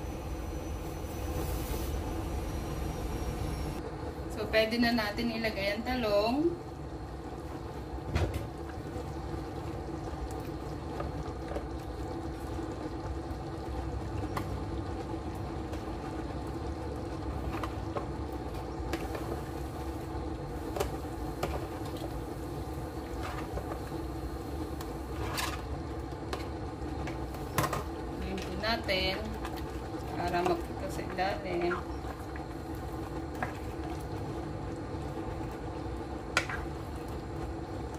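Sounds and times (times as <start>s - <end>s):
pot simmering on cooktop hum: 0.0s - 37.9s.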